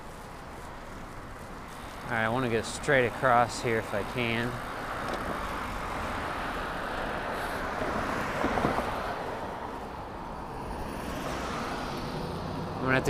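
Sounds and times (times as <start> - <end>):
city traffic passing: 0.0 - 13.0.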